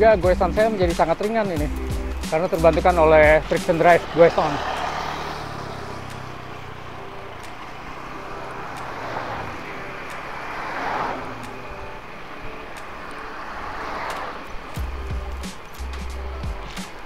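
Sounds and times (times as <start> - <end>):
road traffic: 0.0 - 17.0
tyre noise: 0.0 - 17.0.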